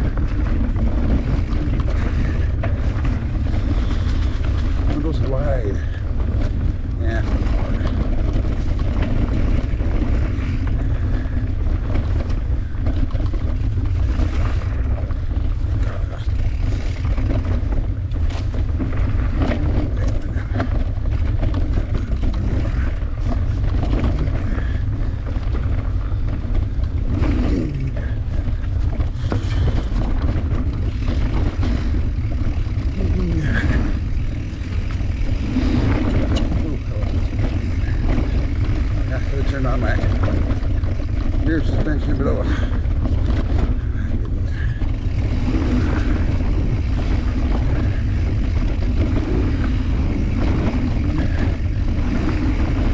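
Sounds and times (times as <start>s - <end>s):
bike rattles: 0.0s - 52.9s
tyres on dirt: 0.0s - 52.9s
wind buffeting microphone: 0.0s - 52.9s.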